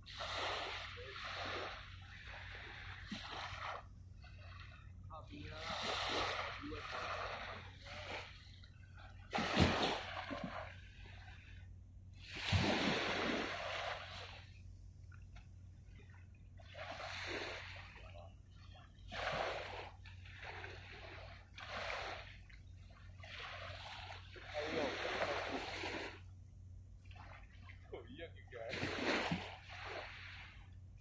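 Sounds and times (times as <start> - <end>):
small waves washing onto shore: 0.0 - 26.3, 27.0 - 30.8.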